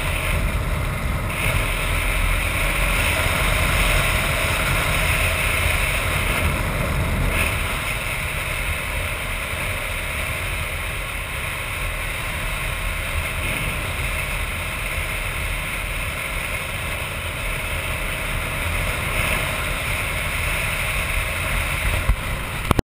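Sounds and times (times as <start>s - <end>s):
motorcycle engine and tyres on gravel: 0.0s - 22.8s
wind rushing over microphone: 0.0s - 22.8s.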